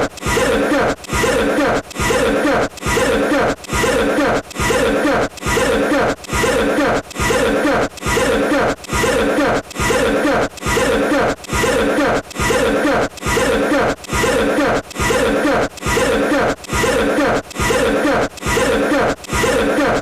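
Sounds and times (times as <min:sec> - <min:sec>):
person coughing: 0:00.3 - 0:20.0.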